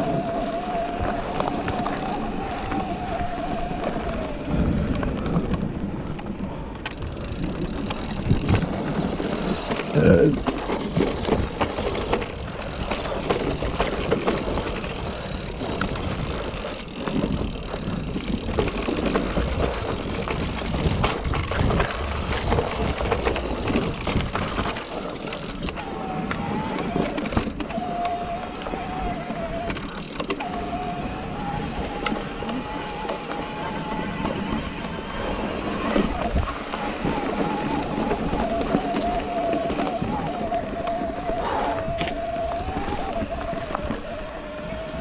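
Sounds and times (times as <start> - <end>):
bike rattling and knocking: 0.0 - 45.0
tyre and wind rumble: 0.0 - 45.0.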